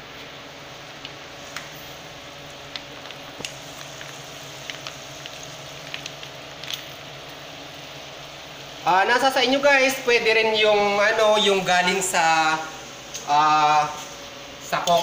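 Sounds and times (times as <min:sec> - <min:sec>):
sauce sizzling and bubbling in a wok: 0:00.0 - 0:15.0.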